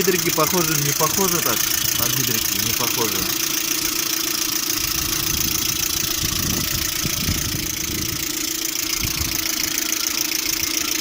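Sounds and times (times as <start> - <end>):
car engine idling: 0.0 - 11.0
engine knocking: 0.0 - 11.0.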